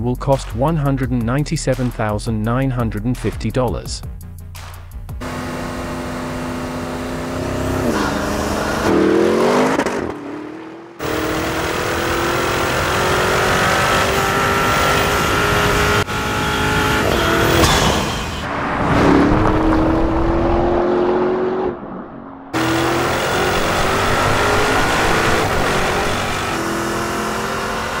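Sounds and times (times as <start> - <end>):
car engine revving: 5.2 - 28.0.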